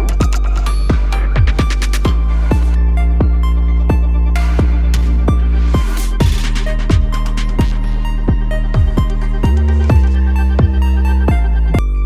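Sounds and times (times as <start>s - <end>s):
electronic music with heavy kick drum: 0.0s - 12.0s.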